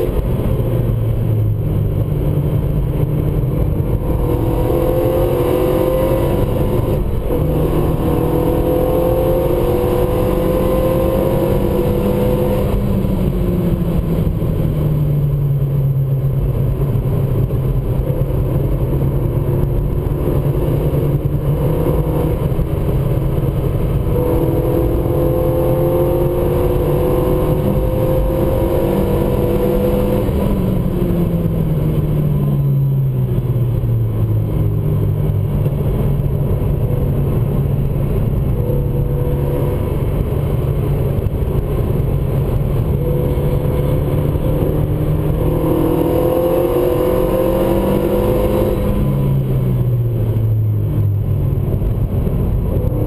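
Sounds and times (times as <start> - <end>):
car engine revving: 0.0 - 53.0
tyre and road noise: 0.0 - 53.0.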